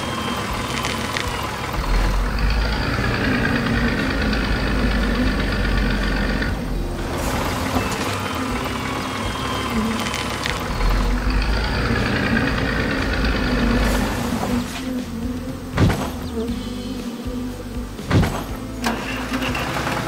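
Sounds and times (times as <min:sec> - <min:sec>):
tractor engine rumbling: 0:00.0 - 0:20.0.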